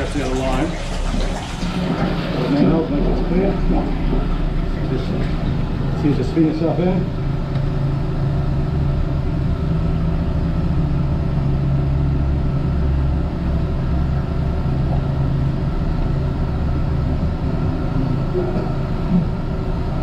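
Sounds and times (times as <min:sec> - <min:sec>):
sewer jetter engine and pump: 0:00.0 - 0:20.0.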